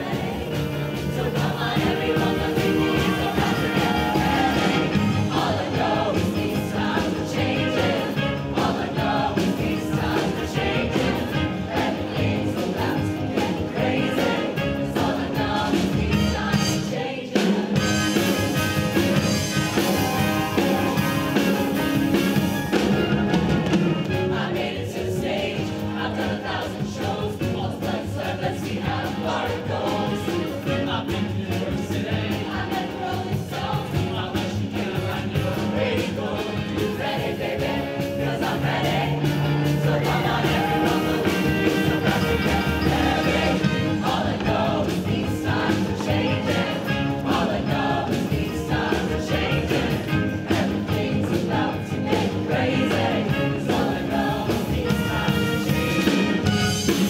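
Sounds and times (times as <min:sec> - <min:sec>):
choir singing: 0:00.0 - 0:57.0
instrumental accompaniment: 0:00.0 - 0:57.0.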